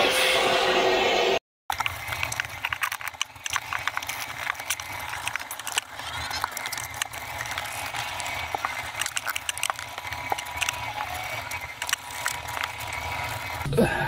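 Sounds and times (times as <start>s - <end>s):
sharp clicks and knocks: 1.7s - 13.7s.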